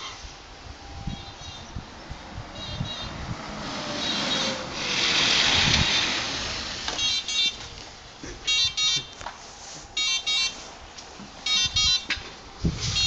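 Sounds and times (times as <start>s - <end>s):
tyre noise on paving stones: 2.5s - 13.0s.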